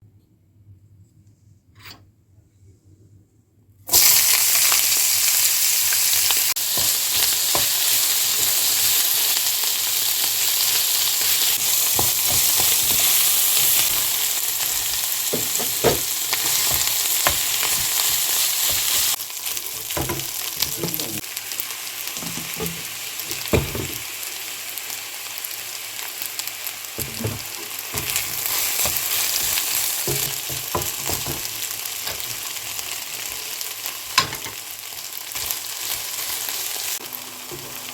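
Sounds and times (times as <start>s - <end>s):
food sizzling in a frying pan: 3.9s - 37.9s.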